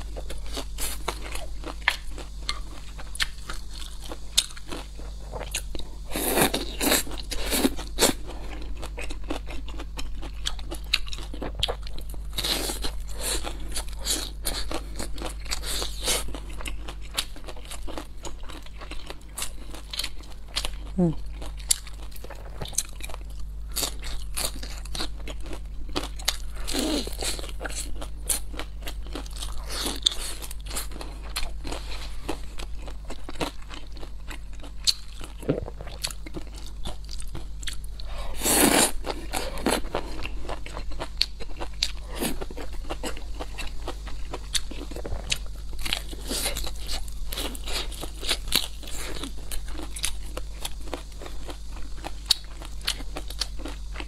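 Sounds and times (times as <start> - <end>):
crunchy food chewing: 0.0 - 54.0
steady low hum: 0.0 - 54.0.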